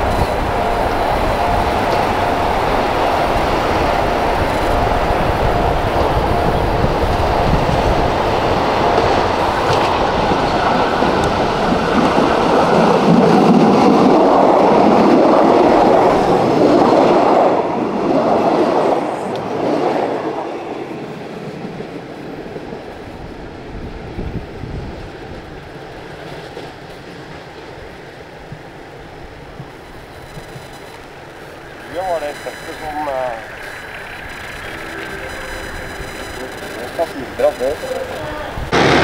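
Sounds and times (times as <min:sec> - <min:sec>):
diesel train passing: 0:00.0 - 0:39.0.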